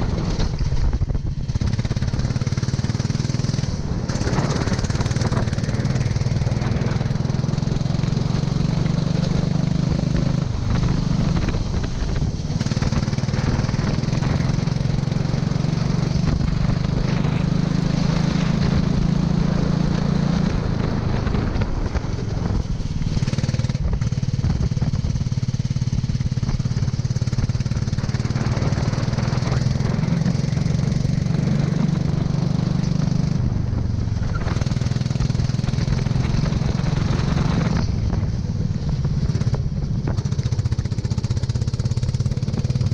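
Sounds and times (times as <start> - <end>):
go-kart engine revving: 0.0 - 42.9
steady rushing noise: 0.0 - 42.9.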